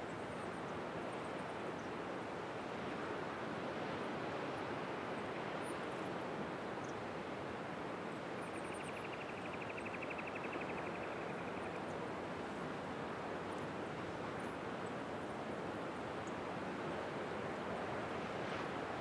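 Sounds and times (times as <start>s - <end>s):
distant ocean surf: 0.5s - 19.0s.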